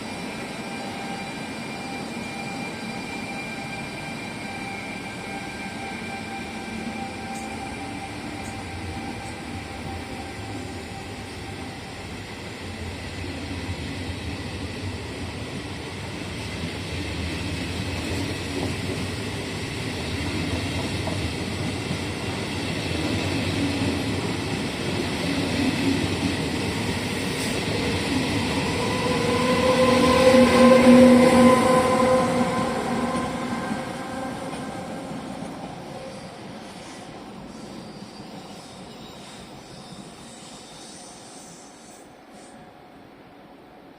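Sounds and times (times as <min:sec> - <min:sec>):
train hum or whine: 0:00.0 - 0:43.9
train rumbling past: 0:00.0 - 0:43.9.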